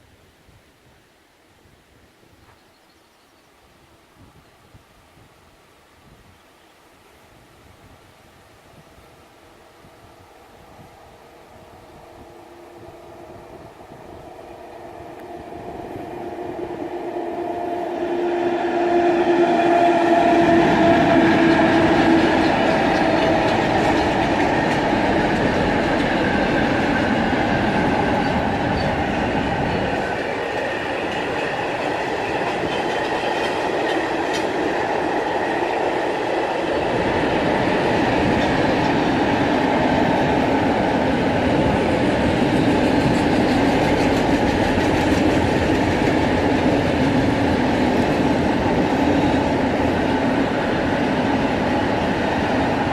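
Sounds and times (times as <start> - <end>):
train wheels rumbling on rail: 9.8 - 52.9.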